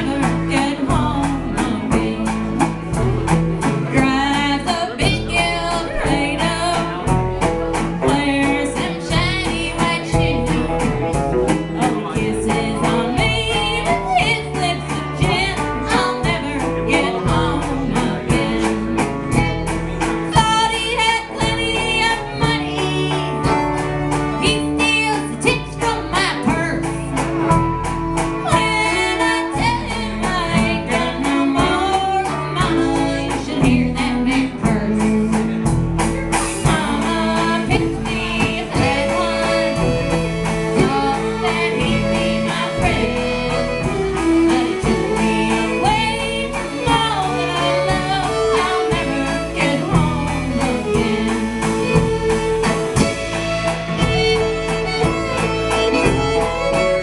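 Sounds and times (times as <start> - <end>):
woman singing: 0.0 - 2.7, 3.8 - 7.2, 8.0 - 11.0, 11.6 - 23.6, 24.4 - 27.1, 28.4 - 35.7, 36.6 - 53.1
strummed acoustic guitar: 0.0 - 57.0
upright bass: 0.0 - 57.0.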